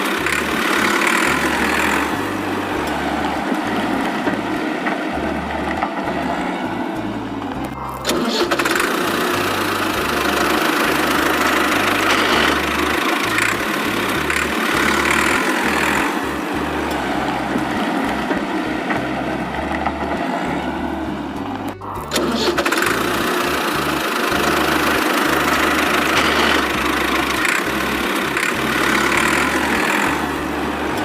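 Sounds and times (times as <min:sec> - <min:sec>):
toy tractor engine running: 0:00.0 - 0:31.0.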